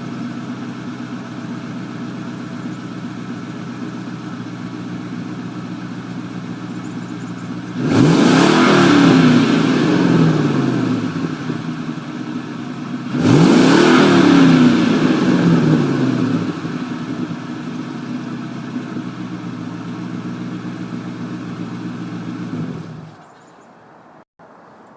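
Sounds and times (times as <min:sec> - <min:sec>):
car exhaust idling and revving: 0:00.0 - 0:23.2.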